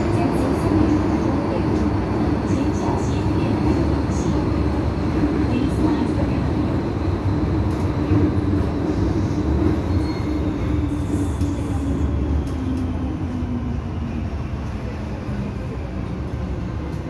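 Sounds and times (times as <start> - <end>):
metro train wheels rumbling: 0.0 - 17.0.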